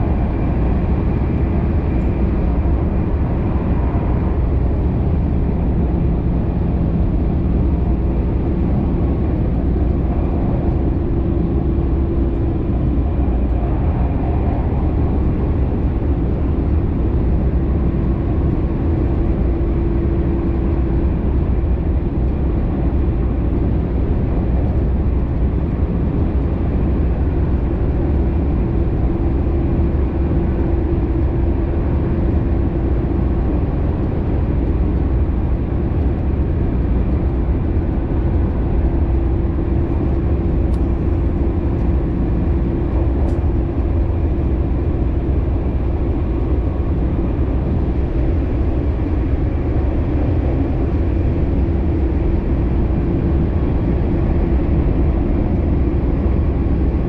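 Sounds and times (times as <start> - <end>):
steady hum: 0.0 - 57.0
train wheels rumbling on rail: 0.0 - 57.0.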